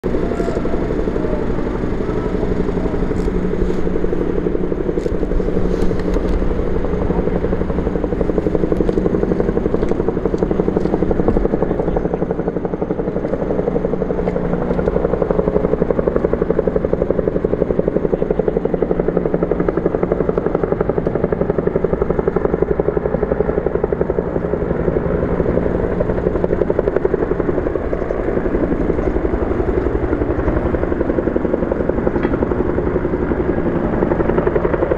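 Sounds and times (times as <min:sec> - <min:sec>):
helicopter rotor beating: 0:00.0 - 0:34.9
turbine whine: 0:00.0 - 0:34.9.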